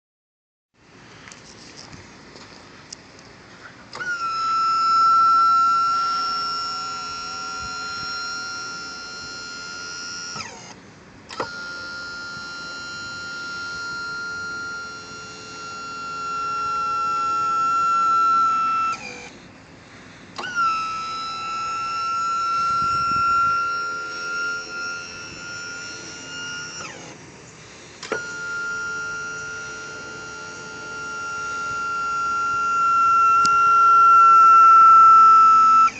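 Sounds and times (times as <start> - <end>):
hydraulic pump whining: 1.2 - 35.9.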